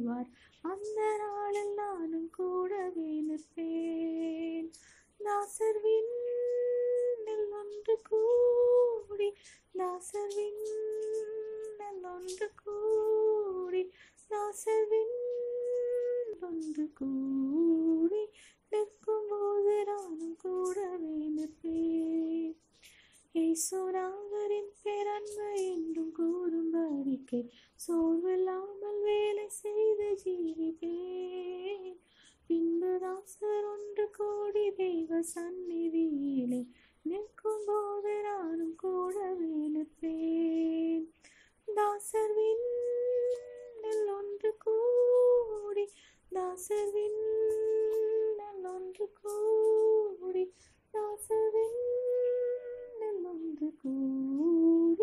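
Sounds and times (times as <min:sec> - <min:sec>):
woman singing a hymn solo: 0:00.0 - 0:22.6, 0:23.3 - 0:41.1, 0:41.7 - 0:55.0.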